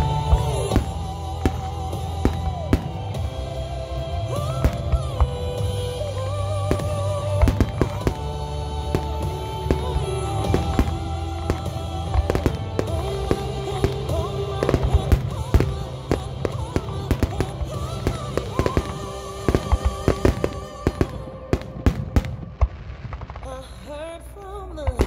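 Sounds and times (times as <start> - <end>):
fireworks bangs and crackles: 0.0 - 24.1
music over loudspeakers: 0.0 - 25.0.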